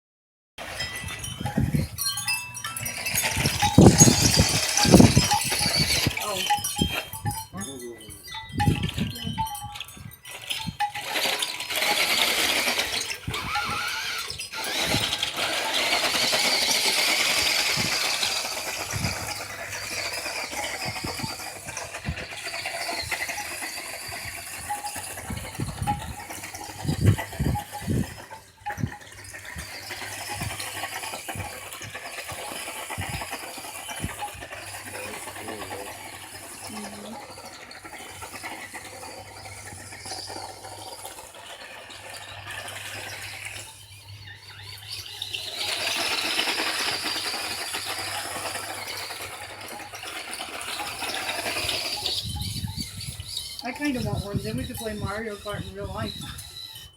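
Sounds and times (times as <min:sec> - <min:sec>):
toy truck motor whining: 0:00.6 - 0:56.9.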